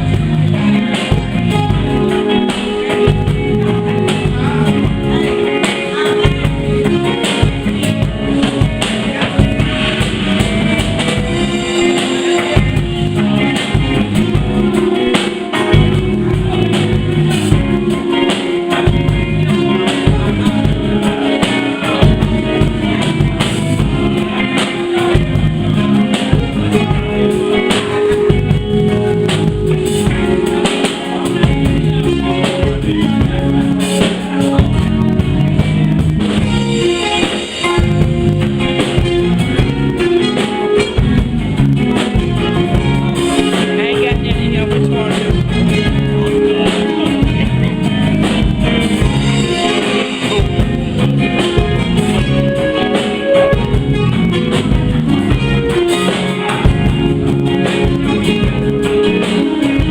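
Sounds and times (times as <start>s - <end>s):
drum kit beat: 0.0s - 59.9s
guitar: 0.0s - 59.9s
person singing: 0.0s - 59.9s.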